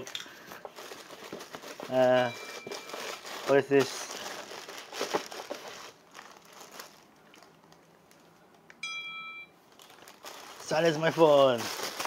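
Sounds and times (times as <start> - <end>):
plastic packaging crinkling: 0.0 - 8.6, 9.6 - 12.0.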